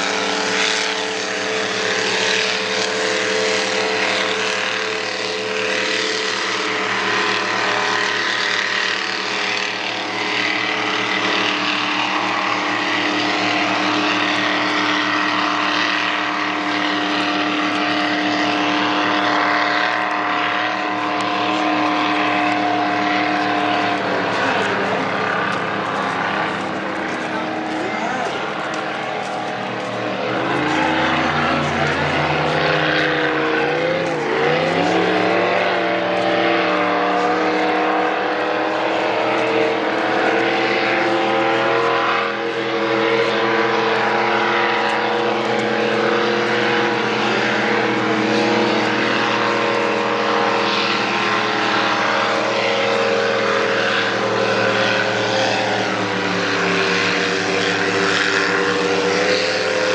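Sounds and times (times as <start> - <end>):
powerboat engines droning: 0.0 - 59.9.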